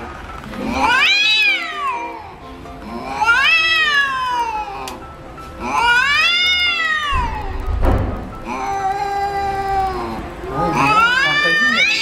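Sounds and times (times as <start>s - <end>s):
cat yowling: 0.7s - 5.0s, 5.6s - 7.6s, 8.4s - 12.0s.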